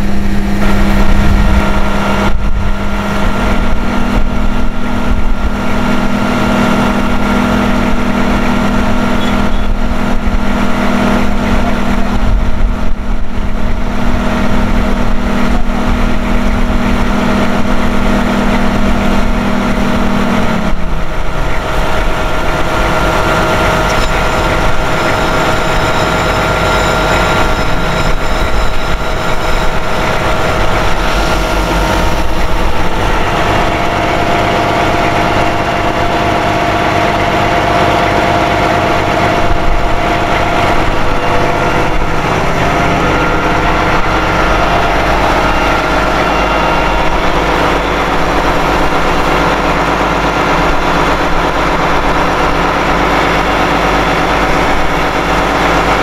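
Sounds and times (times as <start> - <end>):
engine whine: 0.0 - 56.0
truck engine running: 0.0 - 56.0.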